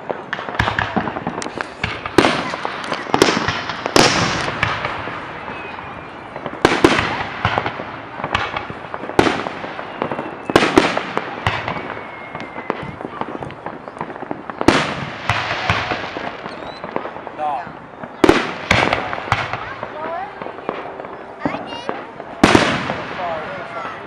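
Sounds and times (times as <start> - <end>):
firework shells bursting: 0.0 - 23.4.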